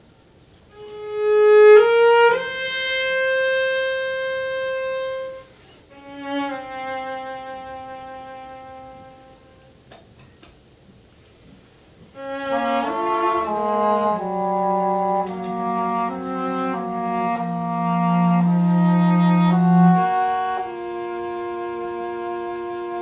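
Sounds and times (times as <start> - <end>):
english horn: 0.7 - 9.8, 12.1 - 23.0
cello: 0.8 - 9.7, 12.1 - 23.0.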